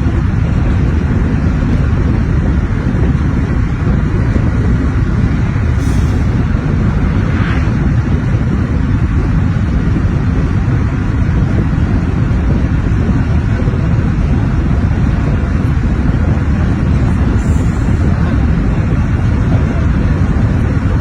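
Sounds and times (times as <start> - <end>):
vehicle road and wind noise: 0.0 - 21.0.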